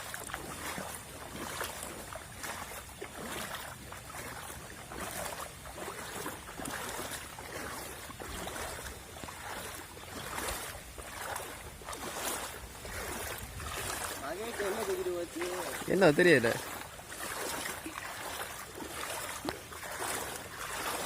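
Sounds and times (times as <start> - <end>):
rushing floodwater: 0.0 - 21.0.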